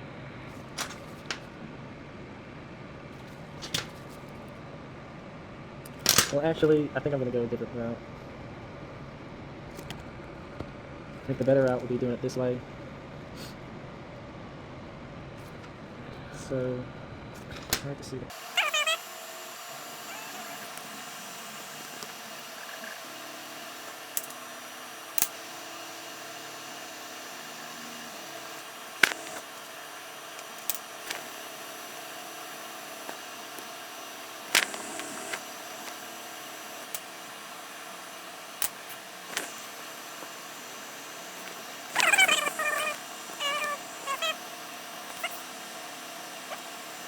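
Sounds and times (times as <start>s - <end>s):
fan-like hum: 0.0s - 47.0s.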